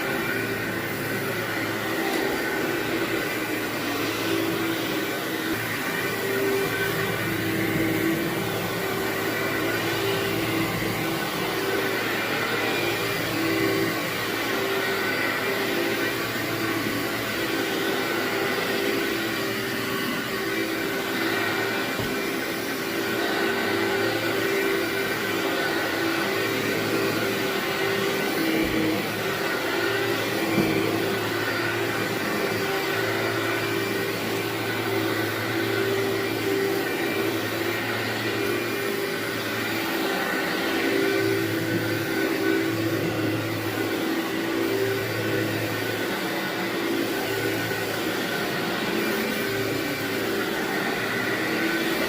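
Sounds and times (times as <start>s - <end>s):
vacuum cleaner running on carpet: 0.0s - 52.0s.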